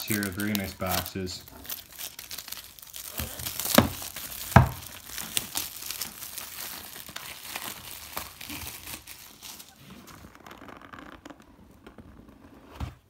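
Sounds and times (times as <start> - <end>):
plastic wrap crinkling and tearing: 0.0 - 12.7.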